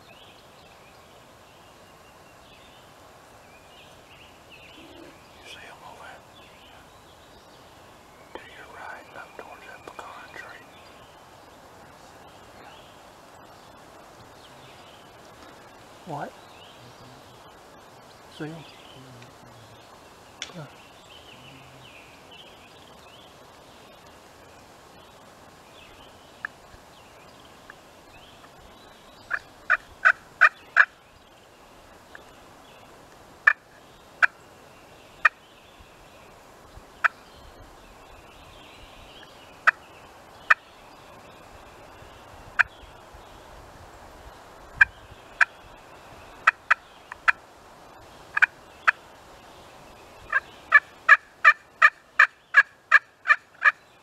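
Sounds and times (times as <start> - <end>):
faint hush of woods: 0.0 - 54.0.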